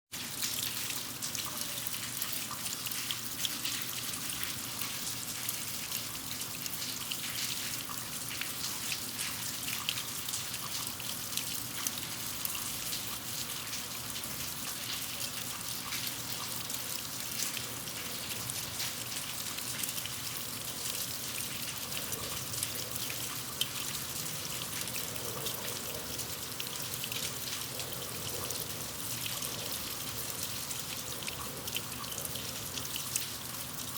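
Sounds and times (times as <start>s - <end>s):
rain falling on concrete: 0.1s - 33.9s
water trickling in a gutter: 0.1s - 33.9s.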